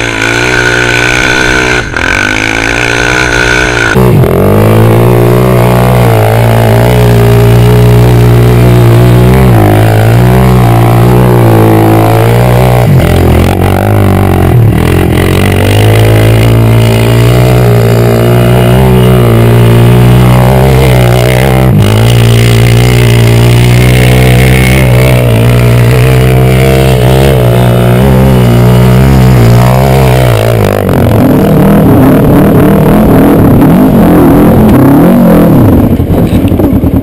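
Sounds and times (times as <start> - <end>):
drone propeller motors humming: 0.0 - 37.0.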